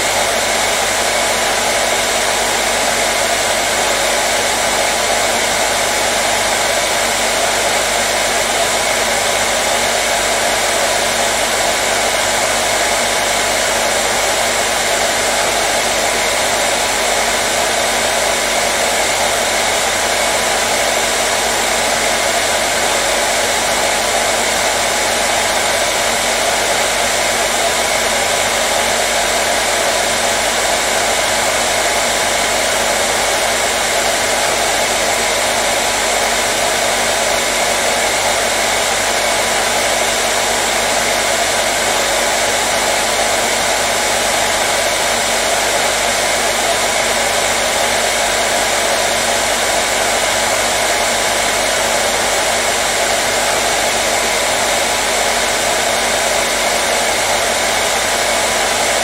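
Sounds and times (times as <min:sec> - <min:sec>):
hair dryer blowing: 0:00.0 - 0:59.0.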